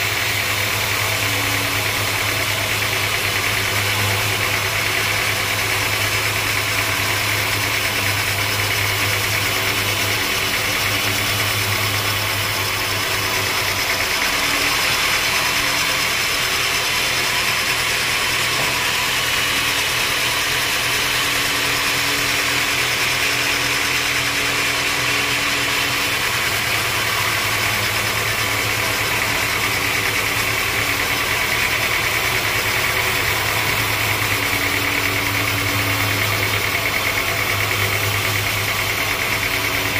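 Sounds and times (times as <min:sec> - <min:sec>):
band saw cutting a log: 0:00.0 - 0:39.9.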